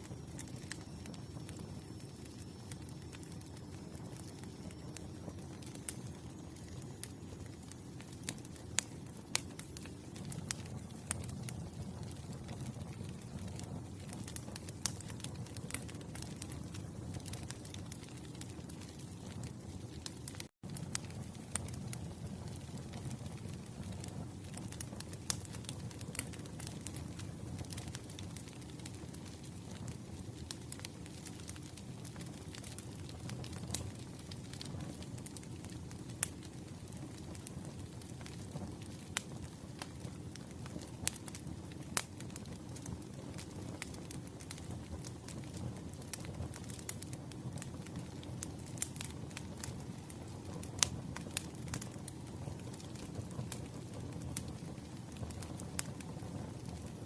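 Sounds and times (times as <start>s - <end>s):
campfire flames rumbling: 0.0s - 57.0s
wood crackling and popping: 0.0s - 57.0s.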